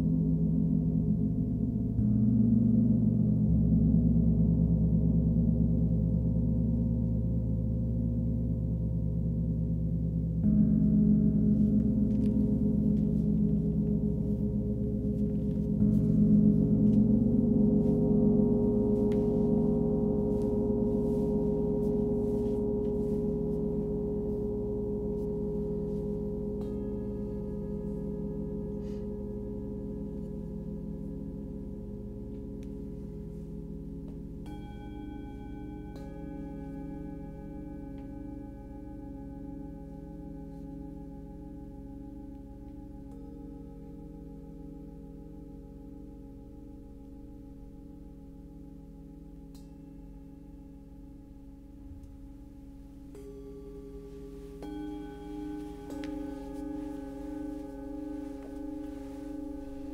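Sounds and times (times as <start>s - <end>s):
gong strokes with deep hum: 0.0s - 59.9s.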